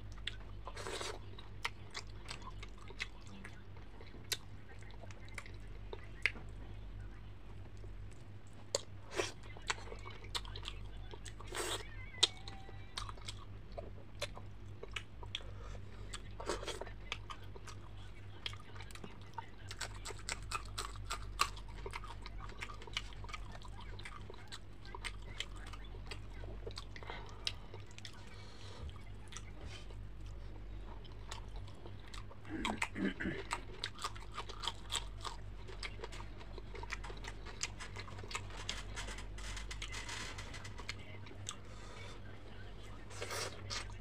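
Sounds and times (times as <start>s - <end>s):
chewing and crunching fried fish: 0.0s - 44.0s
steady low hum: 0.0s - 44.0s.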